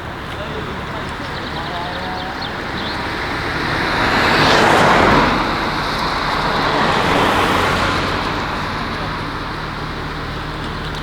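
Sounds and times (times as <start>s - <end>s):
car driving past: 0.0s - 11.0s.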